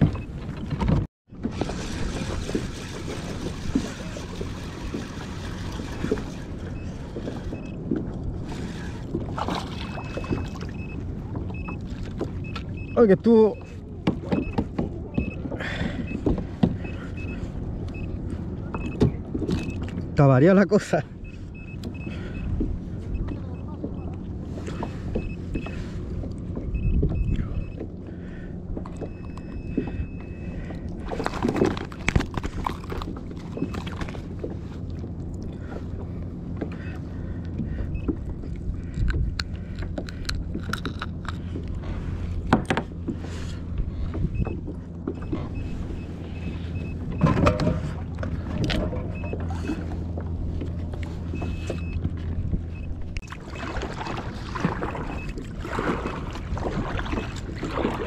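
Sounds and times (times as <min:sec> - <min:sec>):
faint water wash: 0:01.4 - 0:58.0
steady low hum: 0:01.6 - 0:58.0.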